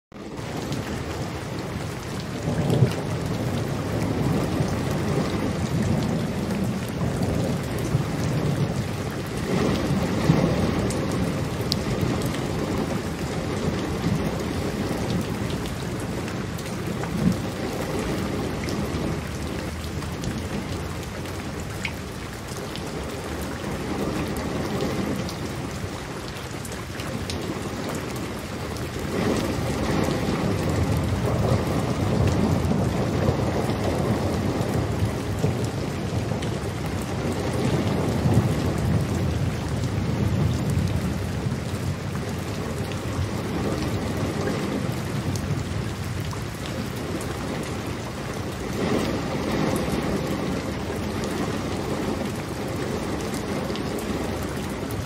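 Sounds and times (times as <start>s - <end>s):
steady rain: 0.1s - 55.0s
rolling thunder: 0.3s - 21.7s, 27.4s - 55.0s.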